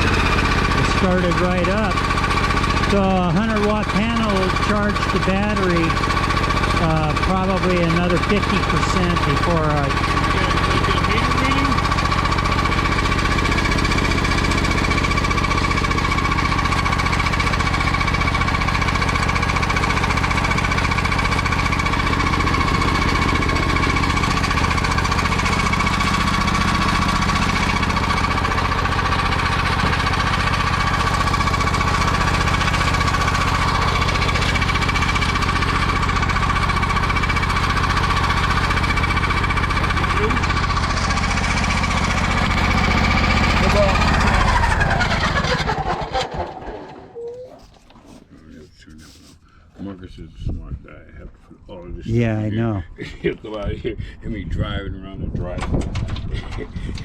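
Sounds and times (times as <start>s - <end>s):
engine idling roughly: 0.0s - 50.2s, 55.4s - 57.0s.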